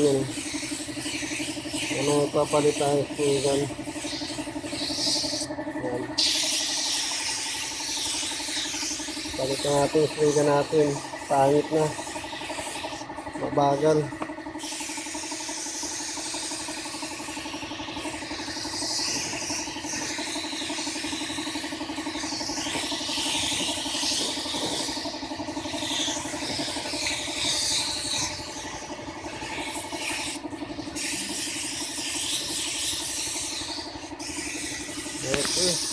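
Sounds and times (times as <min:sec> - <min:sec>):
motor humming: 0:00.0 - 0:35.9
spray gun hissing: 0:00.0 - 0:35.9.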